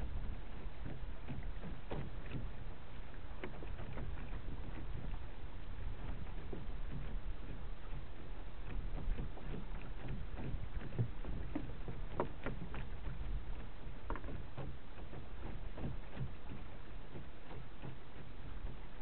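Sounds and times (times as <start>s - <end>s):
waves slapping against hull: 0.0s - 19.0s
wind rumble on microphone: 0.0s - 19.0s.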